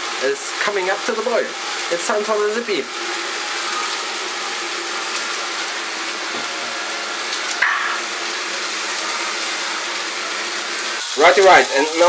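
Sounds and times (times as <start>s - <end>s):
meat and vegetables sizzling in oil: 0.0s - 12.0s.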